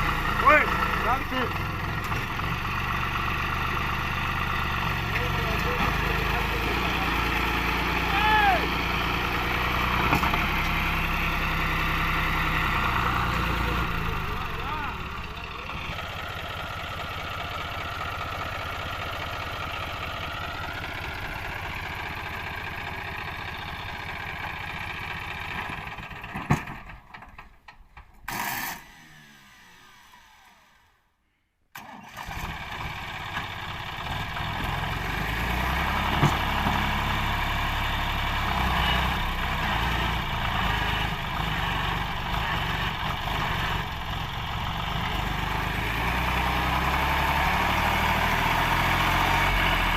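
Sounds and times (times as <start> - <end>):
diesel tractor engine idling: 0.0 - 27.1, 31.8 - 49.9.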